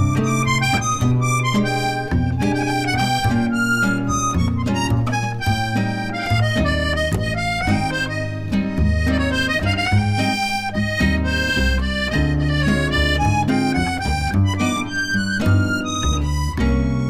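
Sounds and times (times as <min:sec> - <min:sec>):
reedy instrumental tune: 0:00.0 - 0:17.0
steady bass line: 0:00.0 - 0:17.0.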